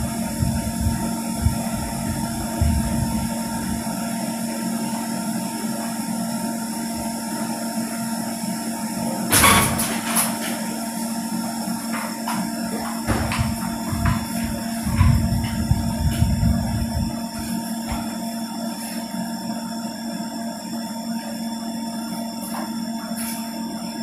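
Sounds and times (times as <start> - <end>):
copier whirring and humming: 0.0 - 24.0.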